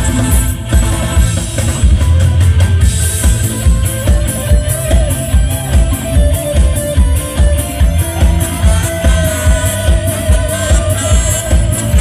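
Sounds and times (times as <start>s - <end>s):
heavy drum and bass beat: 0.0s - 12.0s
live band music: 0.0s - 12.0s.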